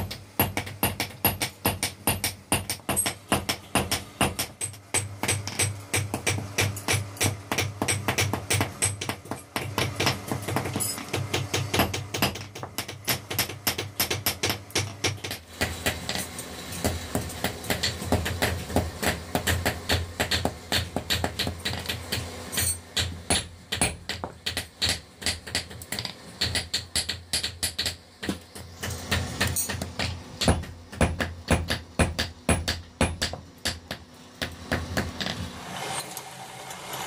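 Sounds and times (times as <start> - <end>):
hammers striking steel on anvil: 0.0 - 35.4.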